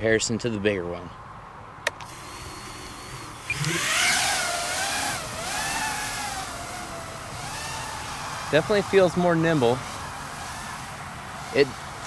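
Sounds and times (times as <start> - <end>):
quadcopter motors whining: 1.9 - 12.0.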